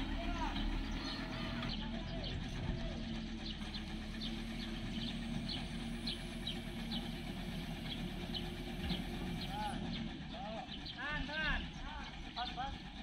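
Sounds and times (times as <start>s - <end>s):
heavy machine engine humming: 0.0s - 13.0s.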